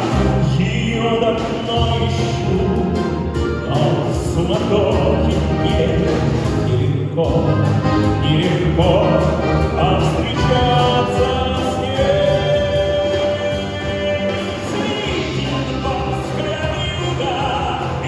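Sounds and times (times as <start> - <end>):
orchestral accompaniment: 0.0 - 18.0
person singing: 0.0 - 18.0.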